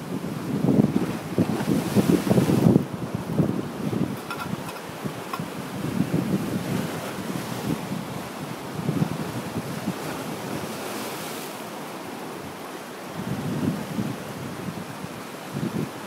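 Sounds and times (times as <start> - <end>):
wind buffeting microphone: 0.0 - 11.3, 13.1 - 16.0
ocean surf on shore: 0.0 - 16.0.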